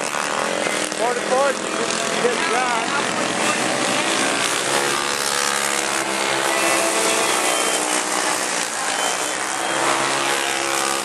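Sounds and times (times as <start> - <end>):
go-kart engines at high revs: 0.0 - 11.0.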